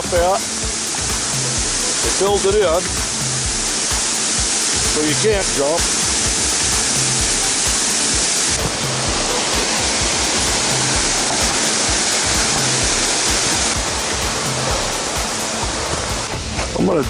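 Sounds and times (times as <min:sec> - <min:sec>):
water rushing over dam spillway: 0:00.0 - 0:17.0.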